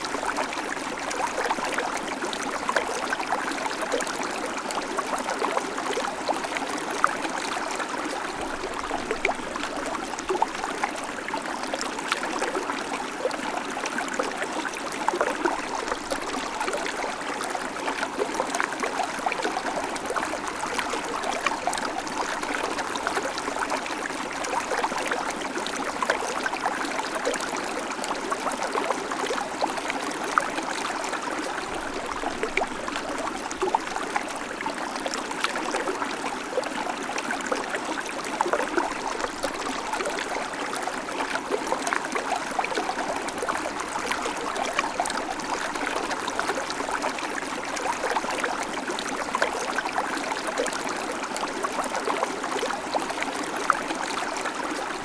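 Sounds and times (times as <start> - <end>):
creek water running and splashing: 0.0 - 55.0.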